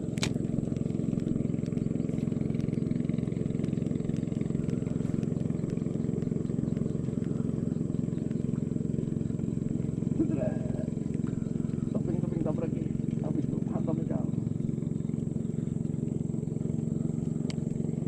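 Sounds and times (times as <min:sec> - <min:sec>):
boat engine droning: 0:00.0 - 0:18.0
faint ticks: 0:00.1 - 0:18.0.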